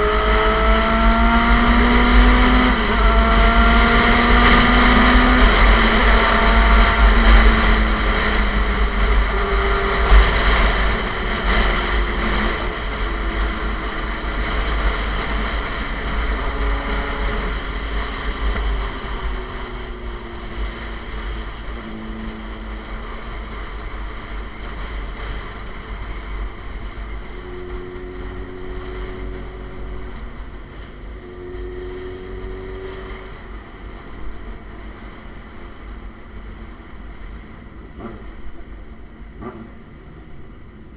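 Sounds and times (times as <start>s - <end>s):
motorcycle engine: 0.0s - 40.9s
wind noise on microphone: 0.0s - 40.9s.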